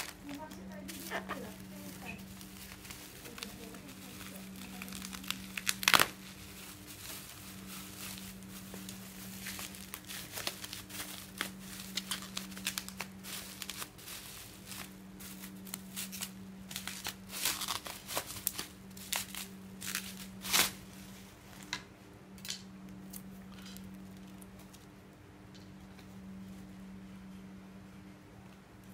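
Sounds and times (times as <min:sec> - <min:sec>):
bubble wrap crackling: 0:00.0 - 0:21.8, 0:22.8 - 0:27.0.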